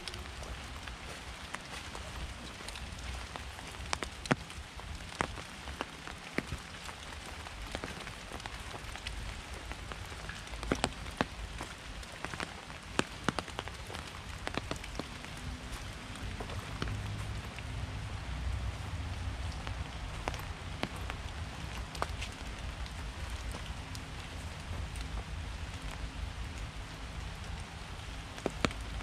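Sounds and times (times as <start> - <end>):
sharp drip ticks: 0.0 - 18.1, 19.0 - 29.0
rain hiss: 0.0 - 29.0.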